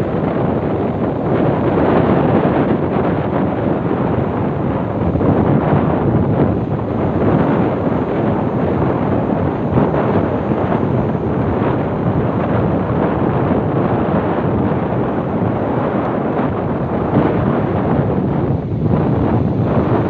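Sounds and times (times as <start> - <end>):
sea waves washing in: 0.0 - 20.0
wind buffeting the microphone: 0.0 - 20.0.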